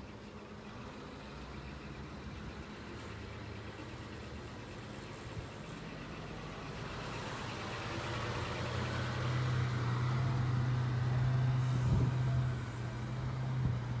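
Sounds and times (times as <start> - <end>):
traffic noise: 0.0 - 14.0
vehicle engine humming: 0.0 - 14.0.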